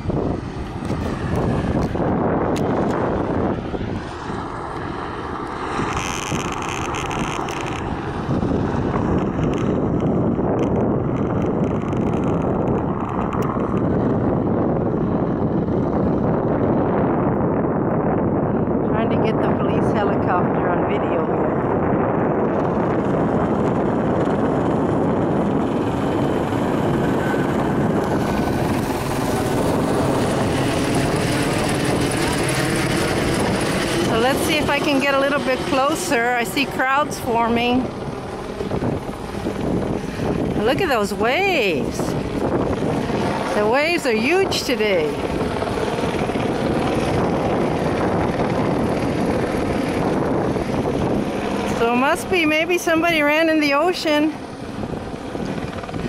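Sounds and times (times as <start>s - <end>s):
distant helicopter drone: 0.0s - 56.0s
wind buffeting microphone: 0.0s - 56.0s.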